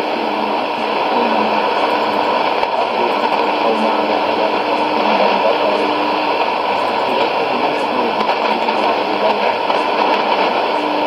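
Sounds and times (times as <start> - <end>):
faint radio broadcast audio: 0.0 - 11.0
radio static hiss: 0.0 - 11.0.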